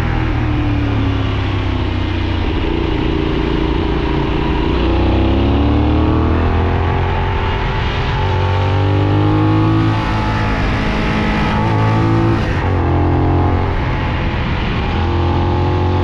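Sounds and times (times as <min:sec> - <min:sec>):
motorcycle engine accelerating: 0:00.0 - 0:16.0
steady rush of noise: 0:00.0 - 0:16.0.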